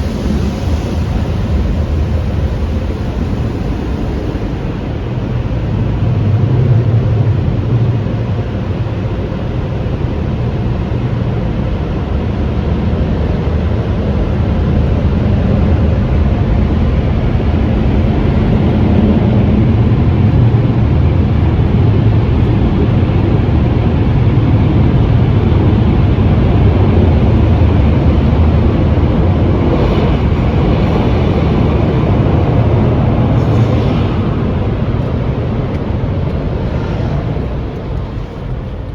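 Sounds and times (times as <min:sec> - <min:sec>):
car wash equipment roaring: 0:00.0 - 0:38.9.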